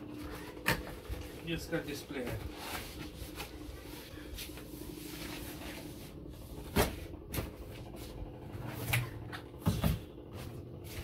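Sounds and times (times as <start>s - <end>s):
cardboard and wrapping rustling: 0.1s - 9.0s.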